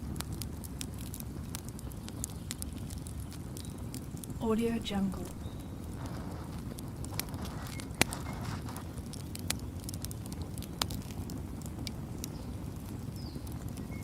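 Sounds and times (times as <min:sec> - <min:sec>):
low rumble of flames: 0:00.0 - 0:14.0
wood crackling and popping: 0:00.0 - 0:14.0.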